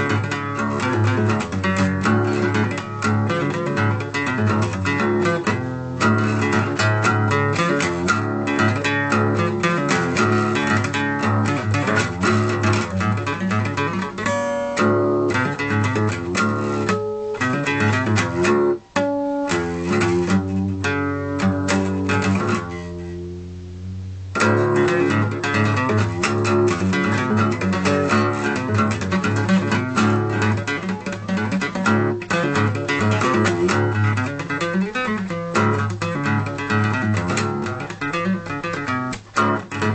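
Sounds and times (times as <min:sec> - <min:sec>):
acoustic guitar playing blues: 0:00.0 - 0:39.9.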